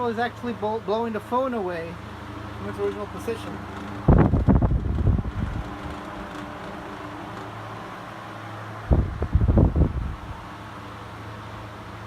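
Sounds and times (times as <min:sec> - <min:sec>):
fan air rushing: 0:00.0 - 0:12.0
low motor hum: 0:00.0 - 0:12.0.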